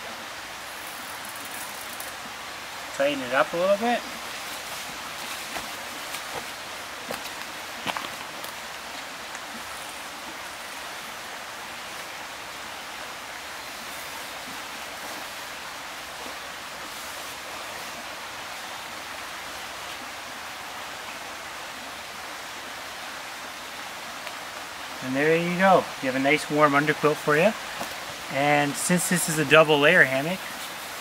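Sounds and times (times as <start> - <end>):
running water rushing: 0.0 - 31.0.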